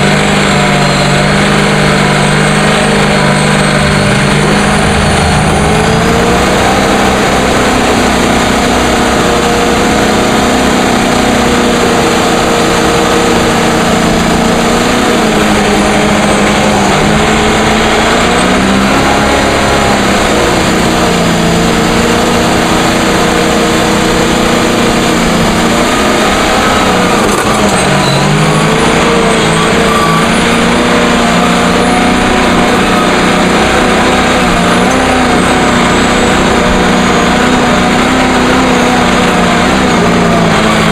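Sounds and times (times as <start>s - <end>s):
heavy machine diesel engine running: 0.0s - 40.9s.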